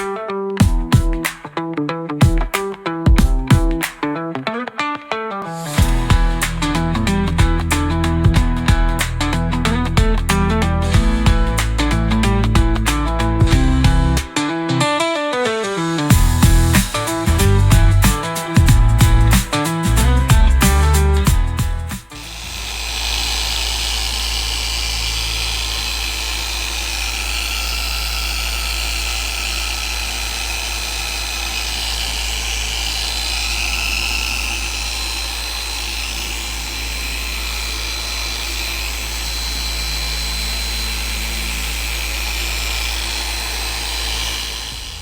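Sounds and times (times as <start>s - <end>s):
electric car polisher whirring: 5.4s - 14.3s, 16.1s - 20.5s, 21.2s - 45.0s.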